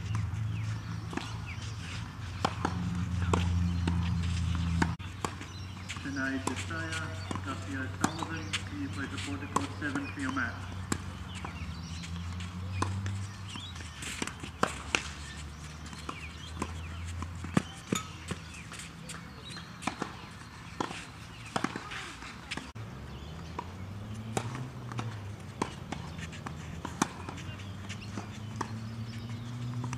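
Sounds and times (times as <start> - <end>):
tennis ball bouncing: 0.0 - 29.9
racket hitting tennis ball: 0.8 - 11.8, 12.4 - 22.8, 23.5 - 29.9.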